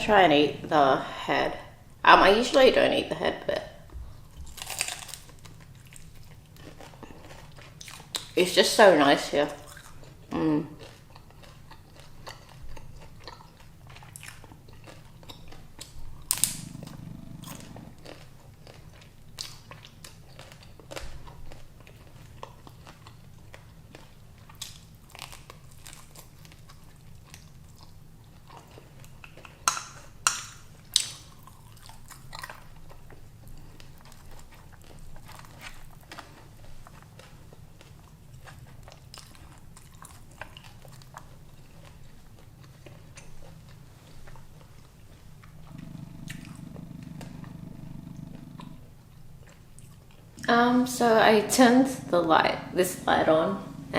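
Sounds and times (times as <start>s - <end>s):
low steady hum: 0.0s - 28.8s, 37.7s - 53.9s
chewing and crunching prawn shells: 3.8s - 8.5s, 9.2s - 53.9s.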